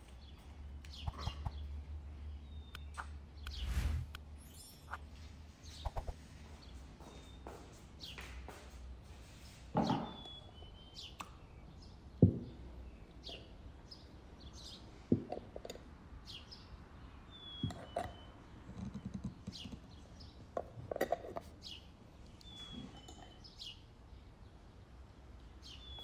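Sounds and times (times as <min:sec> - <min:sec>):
birds chirping: 0:00.1 - 0:08.7, 0:09.8 - 0:15.0, 0:16.2 - 0:20.8, 0:21.5 - 0:24.6, 0:25.4 - 0:26.0.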